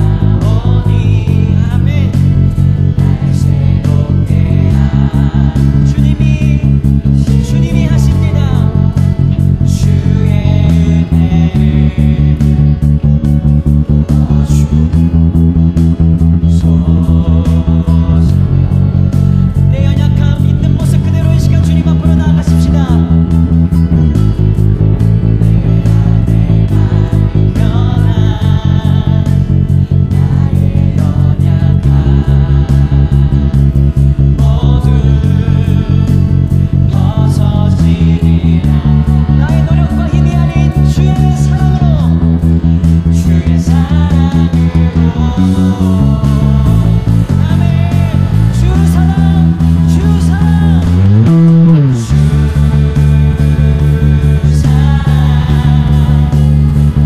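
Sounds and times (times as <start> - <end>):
band playing worship song: 0.0 - 15.1, 16.0 - 57.0
guitars: 0.0 - 57.0
loud low bass guitar: 0.0 - 57.0.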